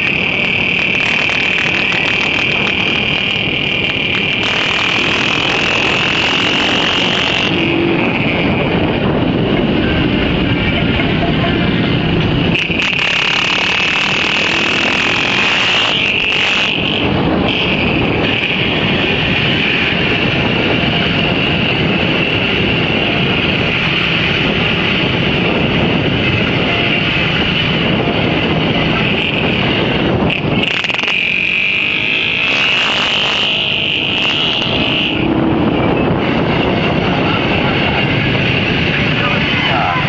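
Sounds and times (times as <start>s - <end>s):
high whine: 0.0s - 40.0s
vehicle engine noise: 0.0s - 40.0s
wind rushing over microphone: 0.0s - 40.0s.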